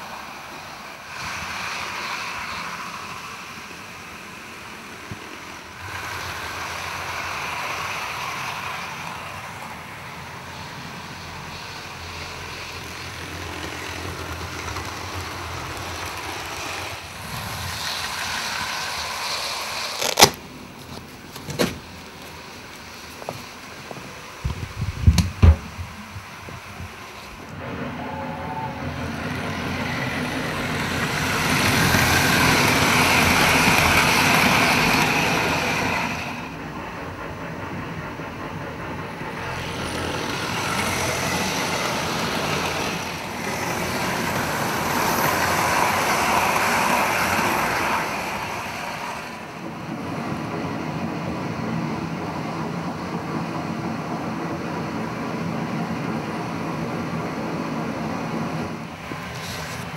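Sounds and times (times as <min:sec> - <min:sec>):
model trains rumbling on track: 0:00.0 - 0:59.9.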